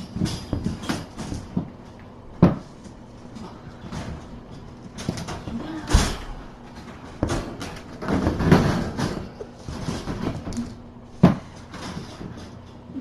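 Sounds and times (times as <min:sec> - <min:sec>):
kittens thumping and knocking: 0:00.0 - 0:13.0.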